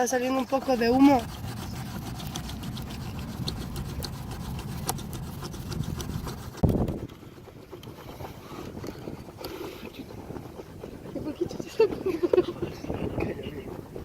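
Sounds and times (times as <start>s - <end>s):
bamboo rasping on bamboo: 0.0s - 14.0s.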